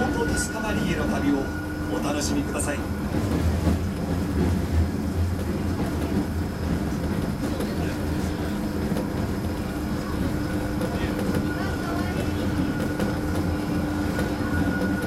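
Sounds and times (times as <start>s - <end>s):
faint train whine: 0.0s - 15.0s
train wheels rumbling on rail: 0.0s - 15.0s.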